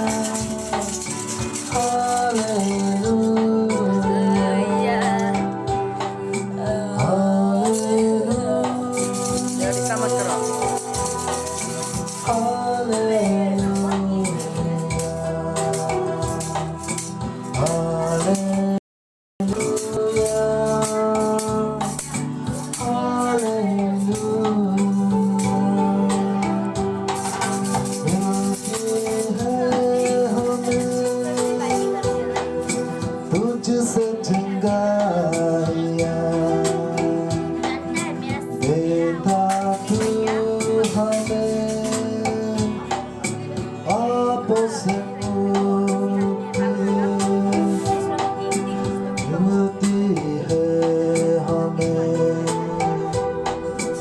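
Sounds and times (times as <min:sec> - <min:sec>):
percussion beat: 0:00.0 - 0:18.8, 0:19.4 - 0:54.0
sung melody: 0:00.0 - 0:18.8, 0:19.4 - 0:54.0.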